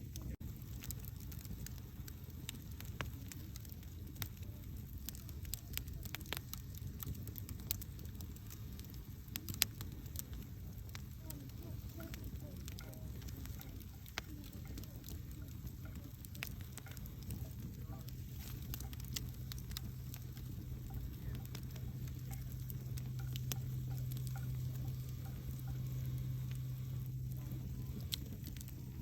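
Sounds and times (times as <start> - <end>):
campfire crackling: 0.0 - 29.0
low steady hum: 0.0 - 29.0.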